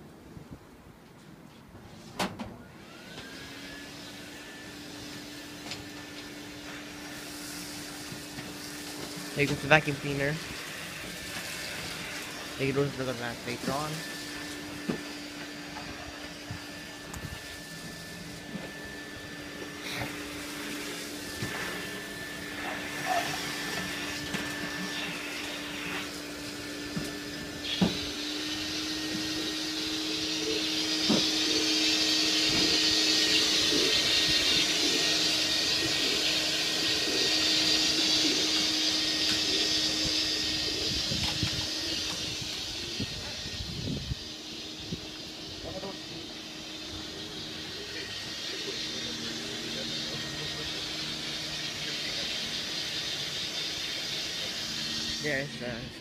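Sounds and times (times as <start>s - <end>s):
vacuum cleaner running: 1.8s - 56.0s
loud hiss: 6.6s - 55.9s.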